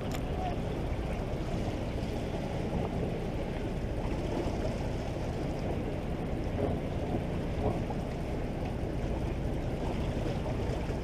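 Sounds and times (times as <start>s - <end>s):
boat engine drone: 0.0s - 11.0s
water noise: 0.0s - 11.0s.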